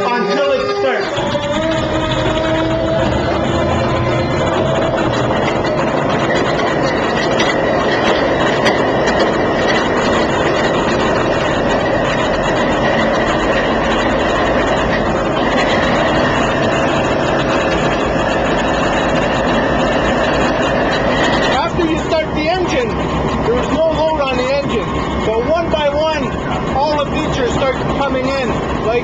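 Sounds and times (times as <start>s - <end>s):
locomotive diesel engine idling: 0.2s - 29.0s.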